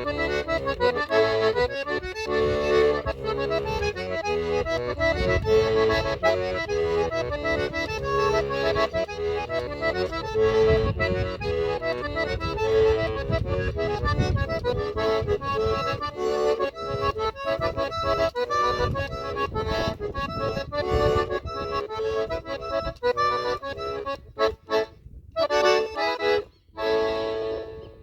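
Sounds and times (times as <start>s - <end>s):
lively accordion tune: 0.0s - 28.0s.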